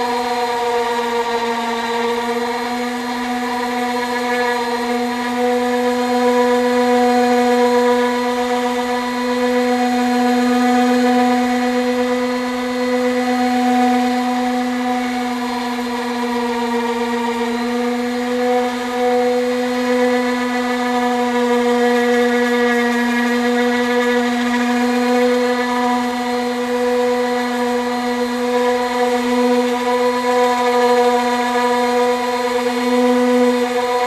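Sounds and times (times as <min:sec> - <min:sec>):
power sander whining: 0:00.0 - 0:34.0.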